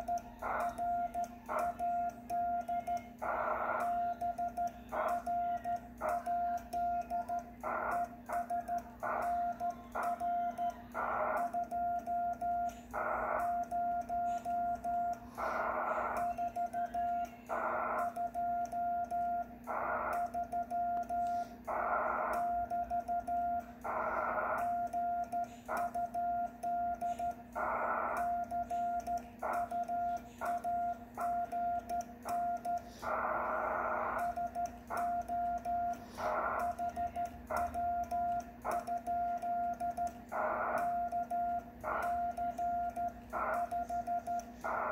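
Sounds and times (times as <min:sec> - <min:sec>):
morse code sidetone beeps: 0:00.0 - 0:44.9
steady low hum: 0:00.0 - 0:44.9.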